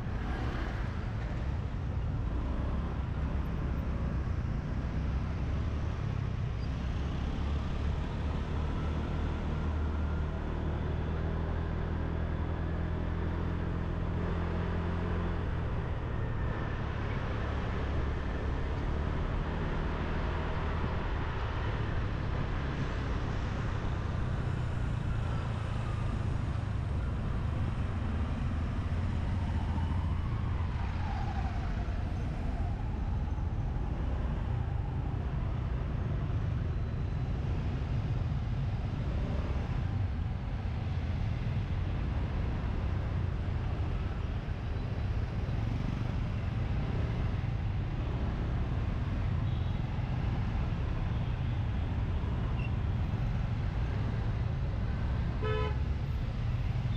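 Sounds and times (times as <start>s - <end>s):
motorbike engine and road rumble: 0.0s - 56.9s
surrounding traffic: 0.0s - 56.9s.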